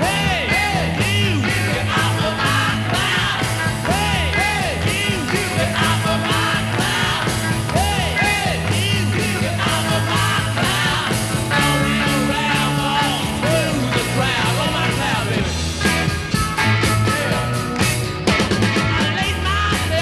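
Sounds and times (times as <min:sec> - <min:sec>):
rock and roll song from jukebox: 0:00.0 - 0:20.0.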